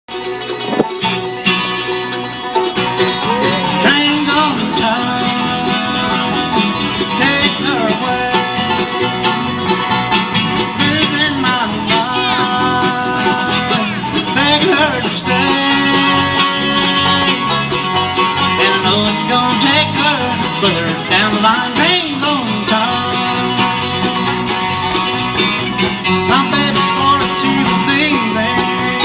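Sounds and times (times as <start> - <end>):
bluegrass band playing: 0.1 - 29.0
picked banjo: 0.1 - 29.0.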